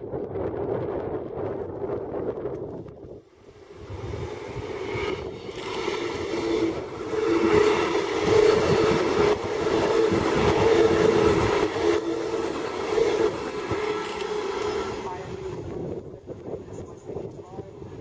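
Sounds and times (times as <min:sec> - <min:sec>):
train steady hum: 0:00.0 - 0:18.0.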